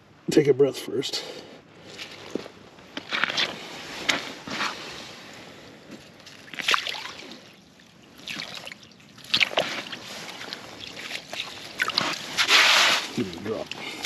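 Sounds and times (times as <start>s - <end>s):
water sloshing and splashing: 1.8s - 14.0s.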